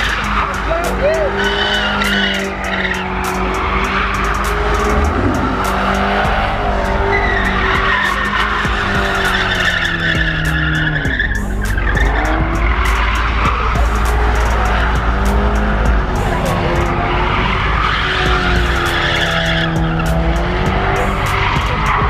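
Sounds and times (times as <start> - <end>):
high-revving car engine: 0.0 - 22.0
tire squeal: 0.0 - 22.0.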